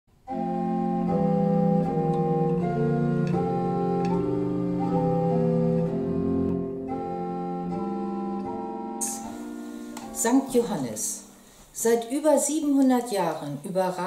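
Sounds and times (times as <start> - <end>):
organ chords: 0.1 - 11.6.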